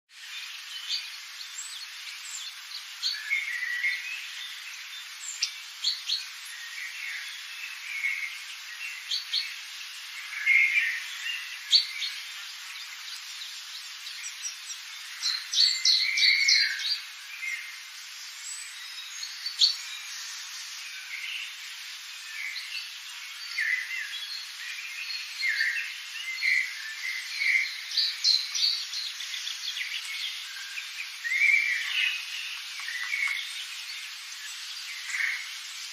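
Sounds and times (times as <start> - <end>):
birds chirping: 0.1 - 35.9
steady high hiss: 0.1 - 35.9.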